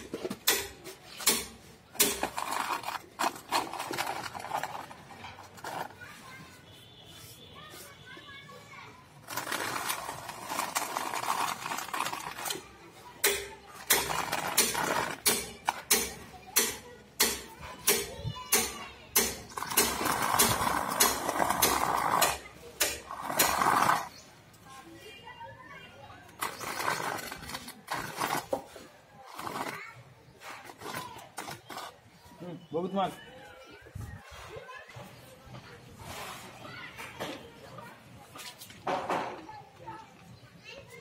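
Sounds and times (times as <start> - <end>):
template scraping wet mortar: 0.0 - 8.3, 8.9 - 24.8, 26.2 - 33.2, 33.9 - 39.2.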